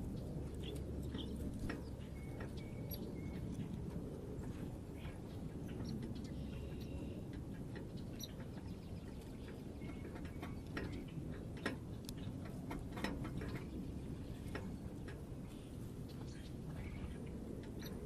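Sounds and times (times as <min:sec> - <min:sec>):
low steady rumble: 0:00.0 - 0:18.0
beaks pecking at seed: 0:00.1 - 0:18.0.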